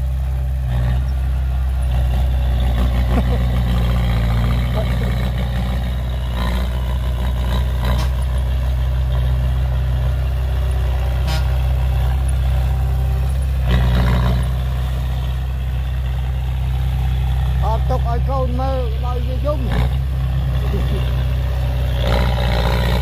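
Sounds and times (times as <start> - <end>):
heavy diesel engine humming: 0.0 - 23.0.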